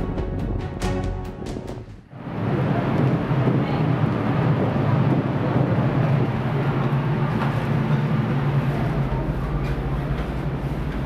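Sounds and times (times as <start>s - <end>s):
machinery and ventilation rumble: 0.0s - 11.0s.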